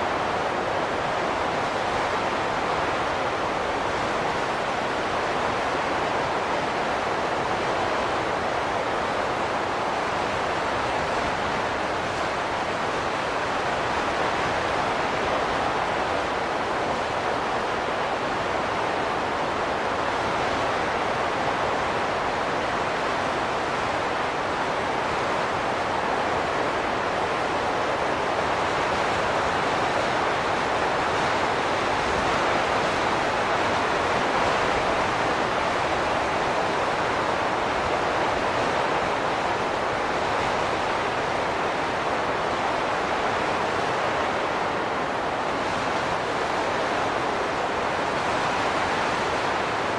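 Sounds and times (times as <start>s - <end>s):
rushing wind: 0.0s - 49.9s.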